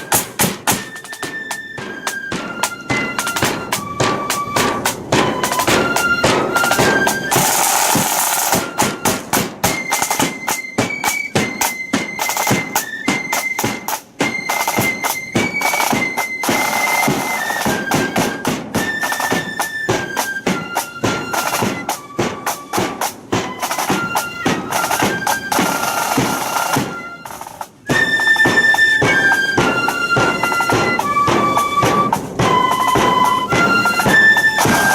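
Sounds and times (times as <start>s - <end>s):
flutes playing melody: 0.0s - 34.9s
snare drum beats: 0.0s - 34.9s.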